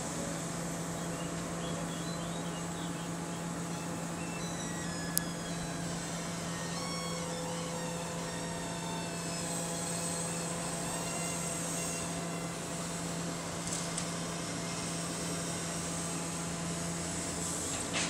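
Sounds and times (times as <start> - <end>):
excavator engine humming: 0.0 - 18.0.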